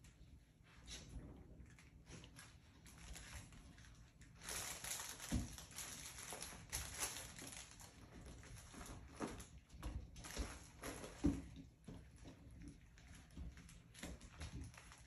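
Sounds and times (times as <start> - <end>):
toys rustling and crinkling: 1.8 - 15.0.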